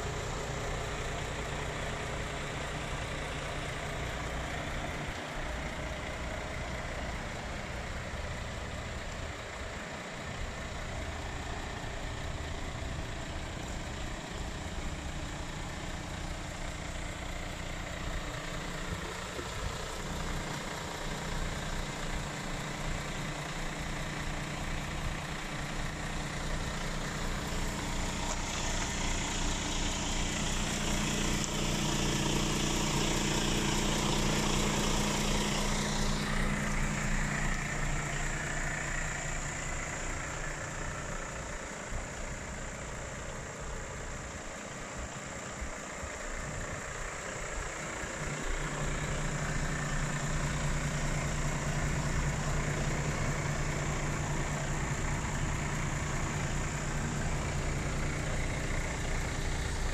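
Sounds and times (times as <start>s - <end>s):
truck diesel engine idling: 0.0s - 59.9s.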